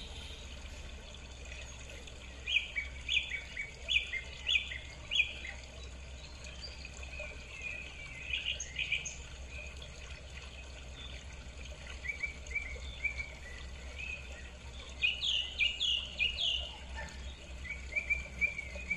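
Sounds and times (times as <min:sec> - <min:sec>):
birds chirping: 0:01.5 - 0:18.9.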